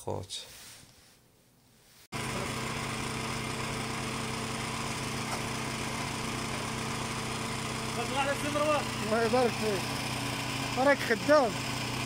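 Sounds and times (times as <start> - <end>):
small engine running: 2.2 - 12.0.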